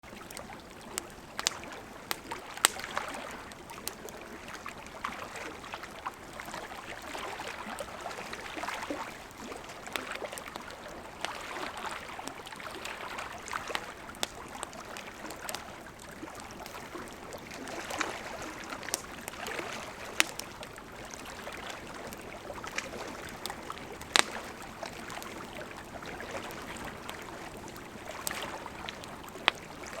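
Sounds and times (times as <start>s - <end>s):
small waves lapping: 0.0s - 30.0s
campfire crackling and popping: 0.1s - 30.0s.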